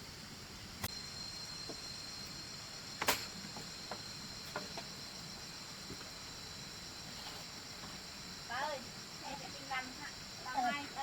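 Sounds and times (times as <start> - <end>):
crickets and insects chirping: 0.0 - 11.0.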